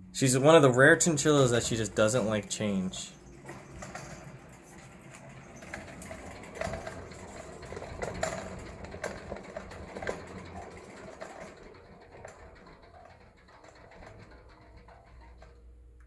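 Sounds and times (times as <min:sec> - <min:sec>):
exercise wheel rumbling: 0:00.0 - 0:16.0.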